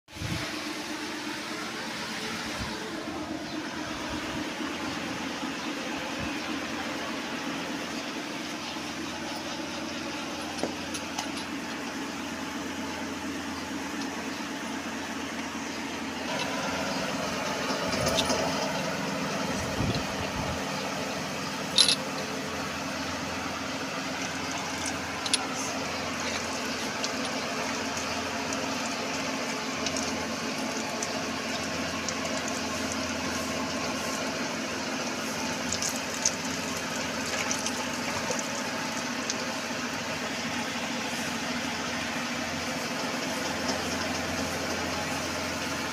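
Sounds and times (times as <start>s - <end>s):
motor humming: 0.2s - 45.9s.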